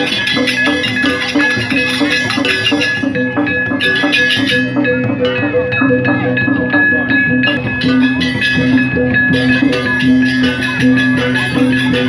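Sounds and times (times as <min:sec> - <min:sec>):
gamelan music: 0:00.0 - 0:12.0.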